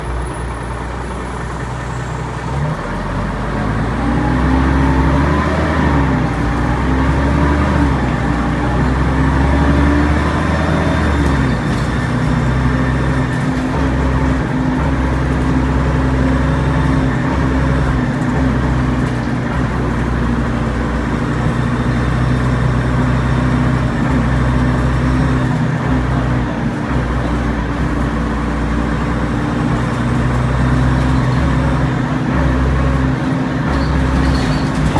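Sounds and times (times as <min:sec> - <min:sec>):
bus engine whining uphill: 0:00.0 - 0:34.9.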